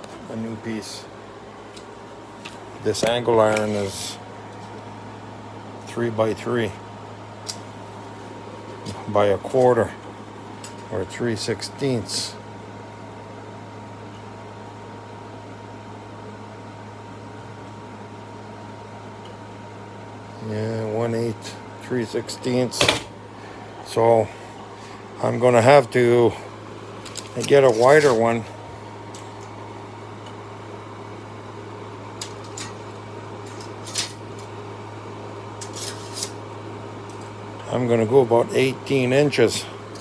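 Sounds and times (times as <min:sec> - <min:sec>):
workshop machinery humming: 0:00.0 - 0:40.0.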